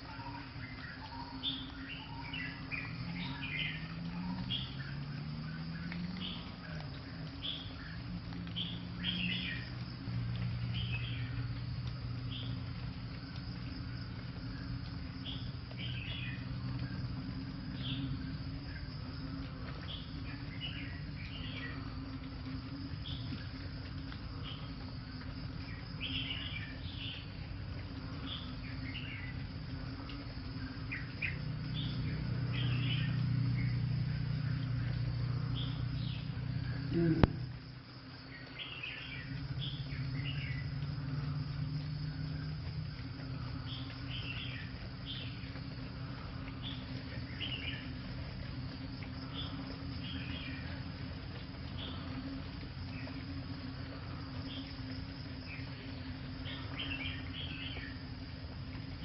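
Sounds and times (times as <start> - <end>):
background hiss: 0.0 - 59.0
low hum: 0.0 - 59.0.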